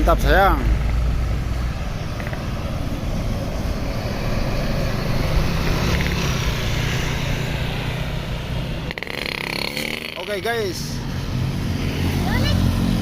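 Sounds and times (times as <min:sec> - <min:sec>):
bus engine hum: 0:00.0 - 0:09.5, 0:10.9 - 0:13.0
road traffic noise: 0:00.0 - 0:13.0.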